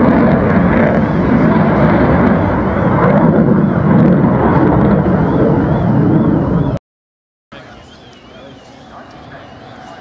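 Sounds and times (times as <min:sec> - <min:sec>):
aircraft engines rumbling overhead: 0:00.0 - 0:06.8, 0:07.6 - 0:10.0.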